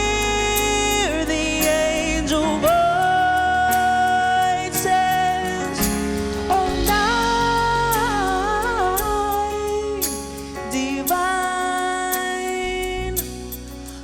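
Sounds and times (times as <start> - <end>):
worship band playing ballad: 0.0 - 14.0.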